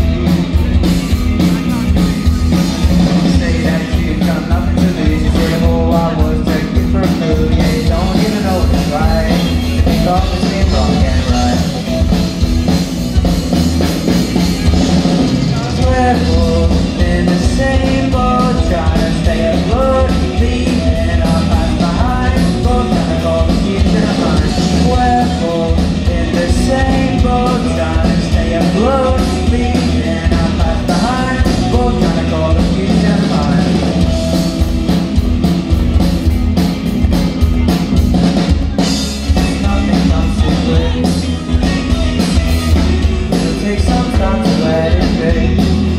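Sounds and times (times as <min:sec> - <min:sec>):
person singing: 0:00.0 - 0:13.4, 0:14.0 - 0:35.1, 0:38.4 - 0:45.9
rock band playing: 0:00.0 - 0:45.9.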